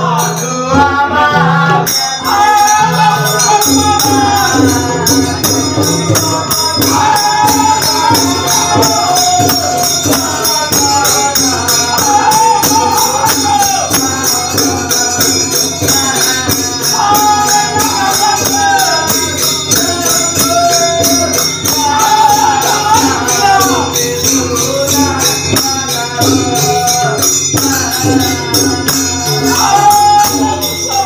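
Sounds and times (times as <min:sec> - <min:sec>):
drum: 0:00.0 - 0:31.0
hand cymbals beating: 0:00.0 - 0:31.0
man singing: 0:00.0 - 0:31.0.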